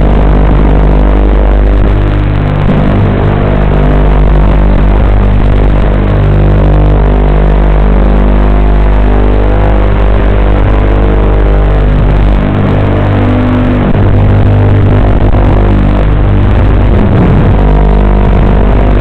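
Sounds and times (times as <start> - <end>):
quadcopter buzzing drone: 0.0 - 19.0.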